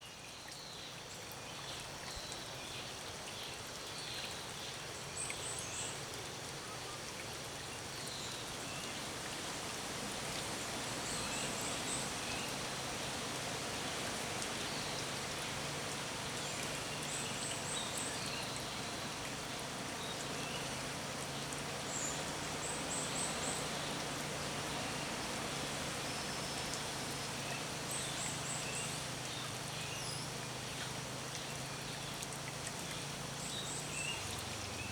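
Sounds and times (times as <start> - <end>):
background hiss: 4.9 - 34.9.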